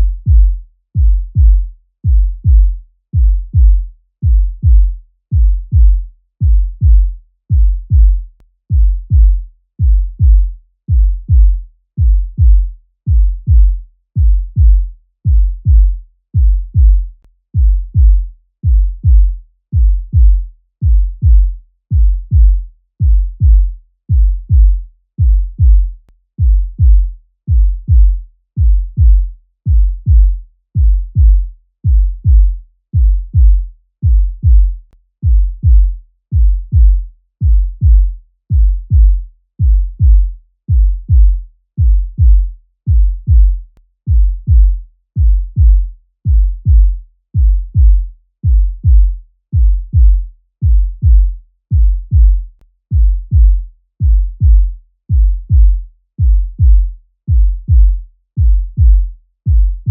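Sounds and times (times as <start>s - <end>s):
heartbeat thumps: 0.0s - 59.9s.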